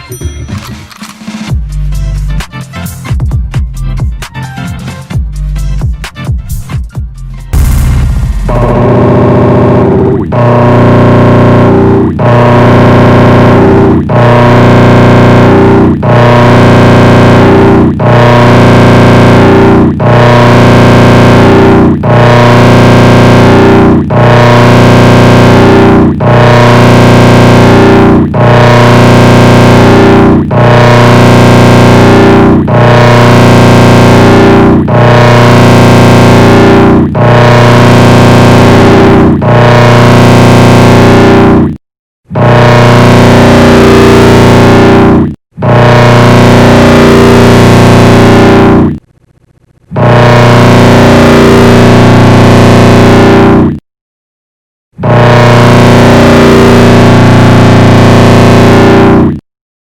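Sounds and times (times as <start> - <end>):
distorted meme sound drone: 7.6 - 53.7, 55.0 - 59.4.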